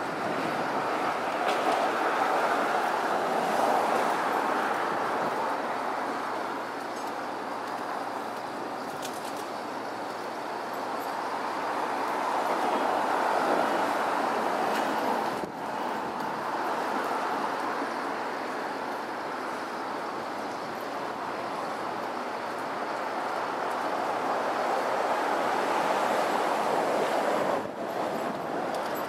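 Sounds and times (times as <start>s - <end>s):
city street traffic noise: 0.0s - 29.0s.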